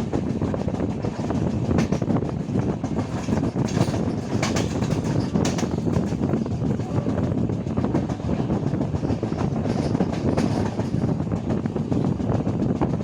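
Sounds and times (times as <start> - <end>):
sharp train clacks: 0.0 - 13.0
train rumble: 0.0 - 13.0
wheel-on-rail clicks and rattles: 0.2 - 6.7, 7.7 - 12.8.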